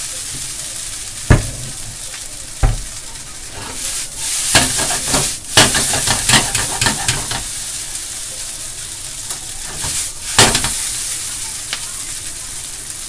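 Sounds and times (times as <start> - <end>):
noodles sizzling in a frying pan: 0.0 - 13.0.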